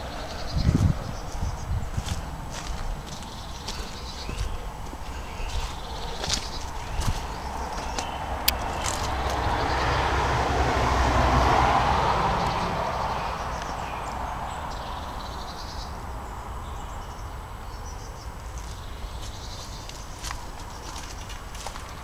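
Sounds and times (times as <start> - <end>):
passing vehicle rumble: 0.0 - 22.0.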